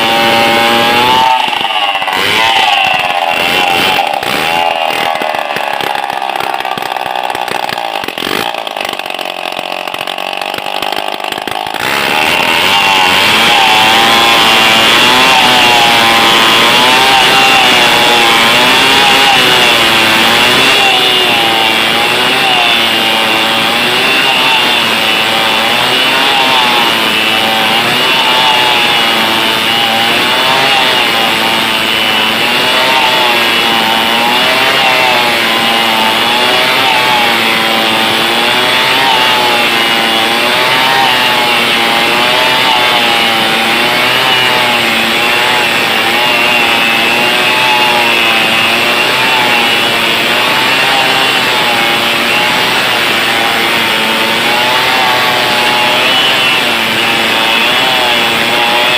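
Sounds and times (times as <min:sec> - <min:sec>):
chainsaw cutting tree trunk: 0:00.0 - 0:58.9.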